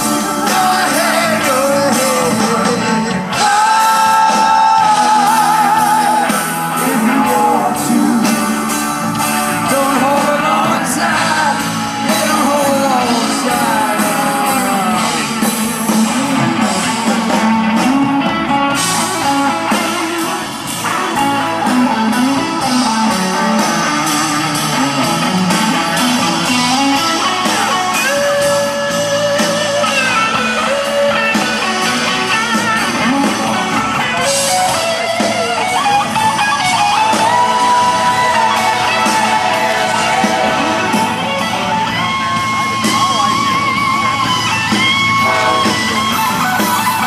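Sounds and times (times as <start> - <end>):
blues-rock band playing: 0.0 - 47.0
electric guitar lead: 0.0 - 47.0.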